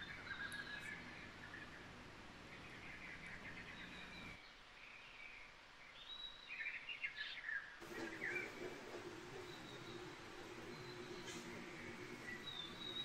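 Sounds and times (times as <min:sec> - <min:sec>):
faint birdsong: 0:00.0 - 0:13.0
low outdoor ambience: 0:00.0 - 0:13.0.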